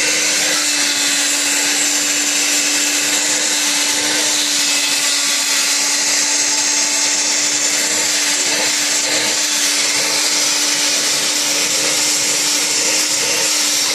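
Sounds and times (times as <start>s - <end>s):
stick vacuum running: 0.0s - 13.9s.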